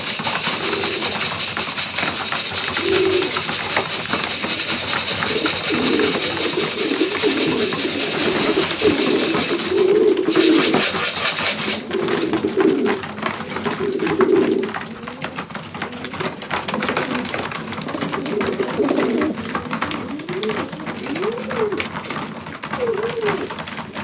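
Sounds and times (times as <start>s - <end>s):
pigeons cooing: 0.0s - 24.0s
rapid clatter: 0.0s - 24.0s.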